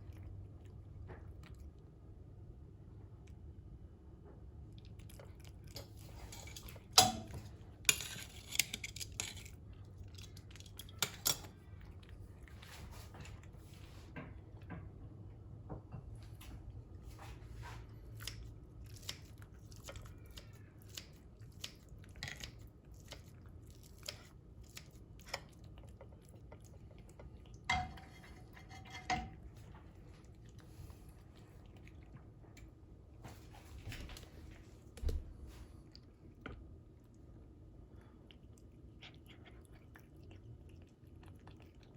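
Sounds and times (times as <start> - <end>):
cat chewing wetly: 0.0 - 14.6, 17.6 - 28.6, 29.3 - 33.2, 35.6 - 41.9.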